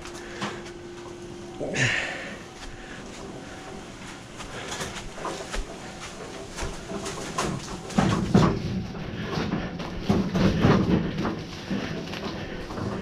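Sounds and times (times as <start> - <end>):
heavy load on hand dolly clattering: 1.7 - 13.0.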